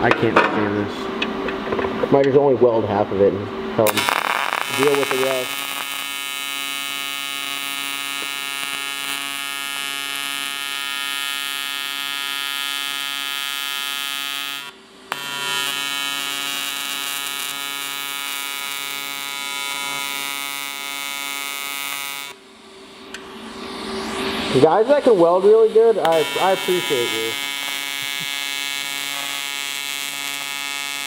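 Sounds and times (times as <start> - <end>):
welding arc buzzing: 3.8 - 31.0.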